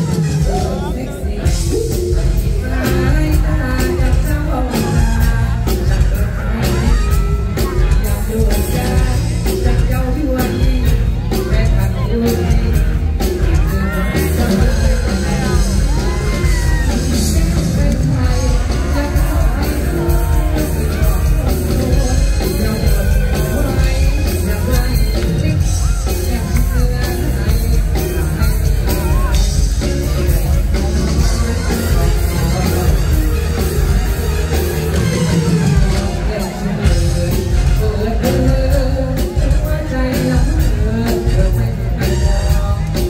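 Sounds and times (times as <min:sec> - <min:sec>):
heavy bass beat: 0:00.0 - 0:43.0
live band music: 0:00.0 - 0:43.0
person singing: 0:00.0 - 0:43.0.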